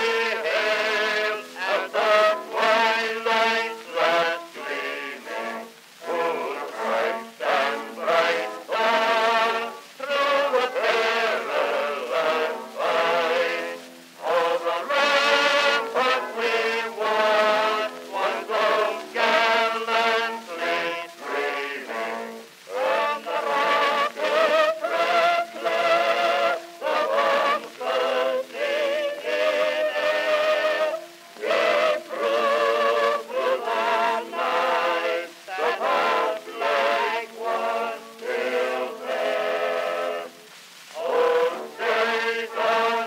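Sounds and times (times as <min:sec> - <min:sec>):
music with sung vocals: 0:00.0 - 0:43.0.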